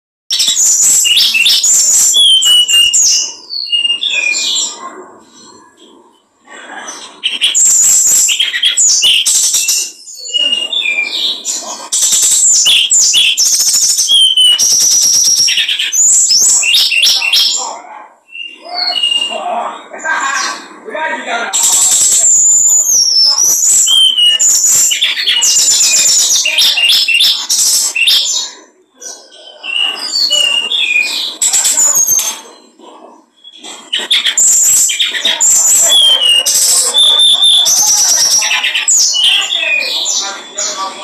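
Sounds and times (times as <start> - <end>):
songbird singing trills: 0.3 - 6.3, 6.9 - 20.0, 21.5 - 41.0.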